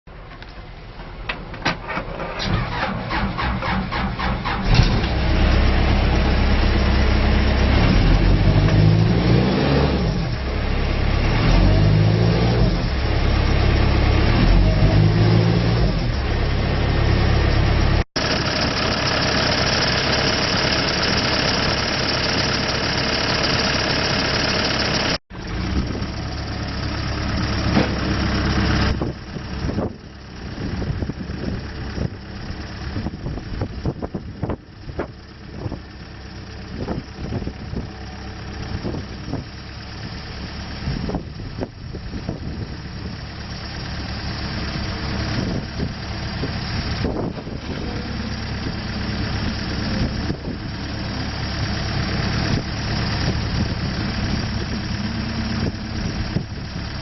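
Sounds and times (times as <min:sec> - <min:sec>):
diesel engine revving: 0:01.8 - 0:57.0.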